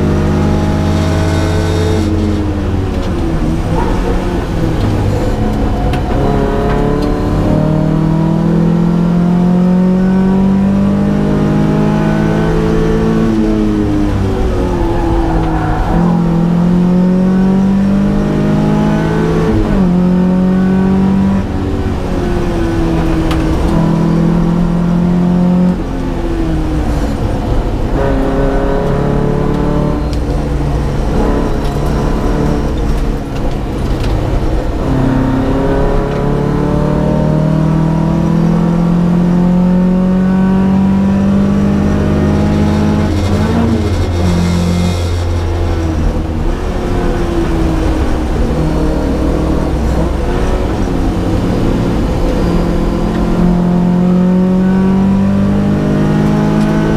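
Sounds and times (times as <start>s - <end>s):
rally car engine revving: 0.0s - 56.9s.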